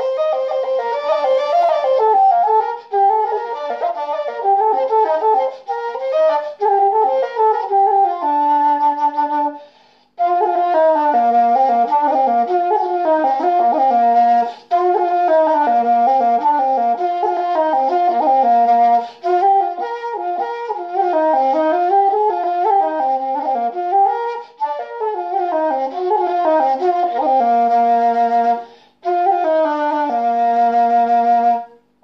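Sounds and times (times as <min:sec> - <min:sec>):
flute melody: 0:00.0 - 0:32.0.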